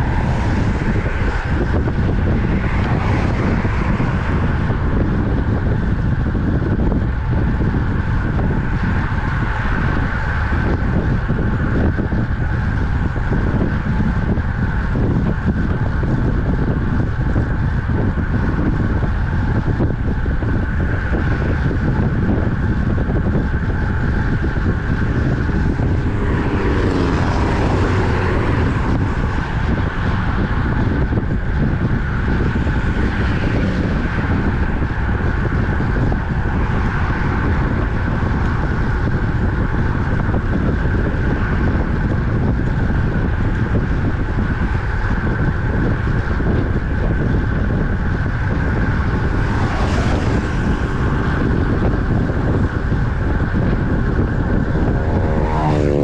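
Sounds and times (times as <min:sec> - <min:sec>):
motor vehicle passing: 0:00.0 - 0:56.0
traffic noise: 0:00.0 - 0:56.0
wind rumble on microphone: 0:00.0 - 0:56.0.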